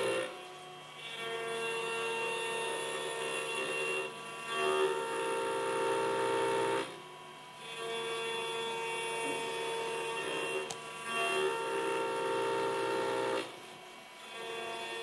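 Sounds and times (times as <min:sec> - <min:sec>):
router spindle cutting aluminium: 0:00.0 - 0:15.0.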